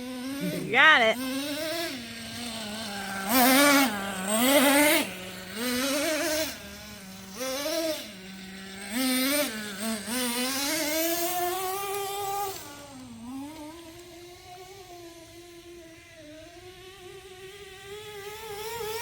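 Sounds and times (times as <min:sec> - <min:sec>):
rc truck nitro engine revving: 0:00.0 - 0:19.0.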